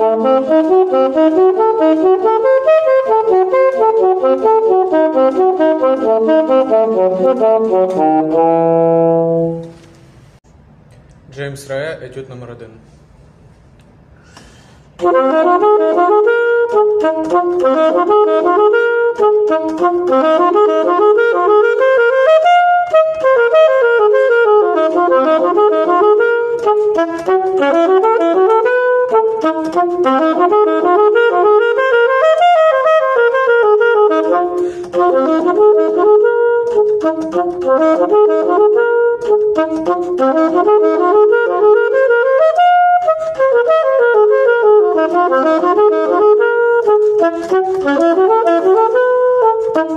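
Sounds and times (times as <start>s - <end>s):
solo saxophone: 0.0s - 10.4s, 13.9s - 49.9s.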